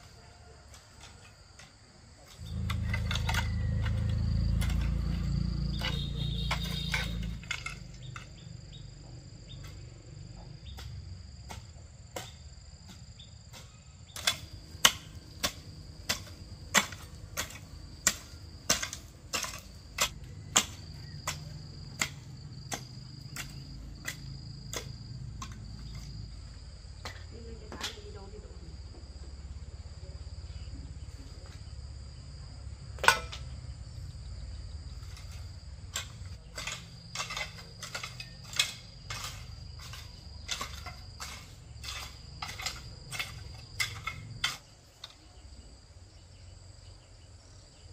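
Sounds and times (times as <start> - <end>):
high insect trill: 0.0 - 47.9.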